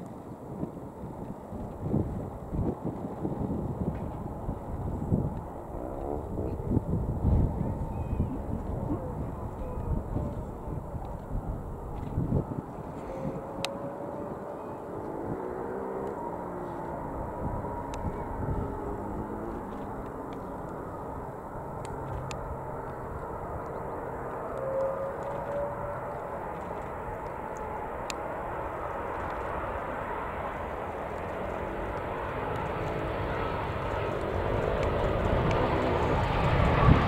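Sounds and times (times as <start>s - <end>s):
jet airliner rumble: 0.0s - 37.0s.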